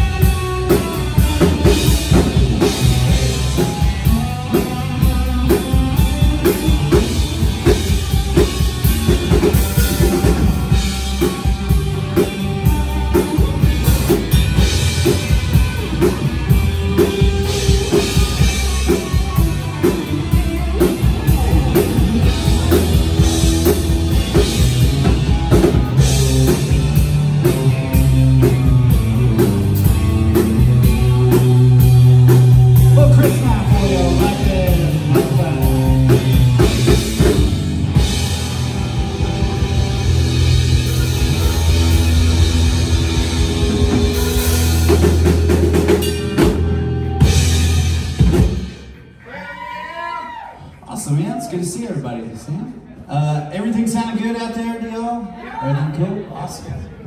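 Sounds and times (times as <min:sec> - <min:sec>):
drum kit beat: 0:00.0 - 0:49.1
live rock band playing: 0:00.0 - 0:49.6.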